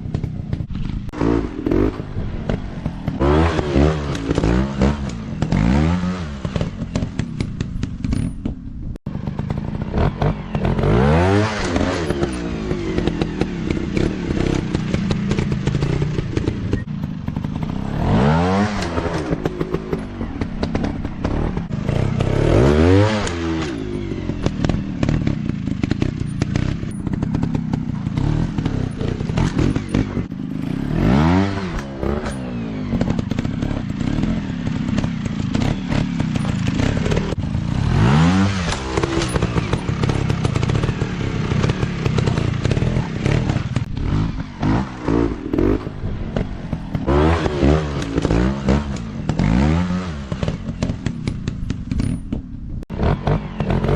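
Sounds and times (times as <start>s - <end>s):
dirt bike engines revving: 0.0s - 8.3s, 9.1s - 53.9s.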